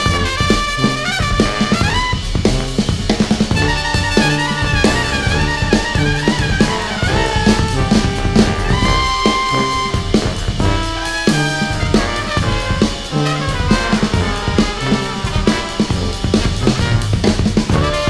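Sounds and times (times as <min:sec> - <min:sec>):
drum kit beat: 0:00.0 - 0:18.0
keyboards: 0:00.0 - 0:18.0
trumpets and saxophone melody: 0:00.0 - 0:18.0
tuba: 0:00.0 - 0:18.0.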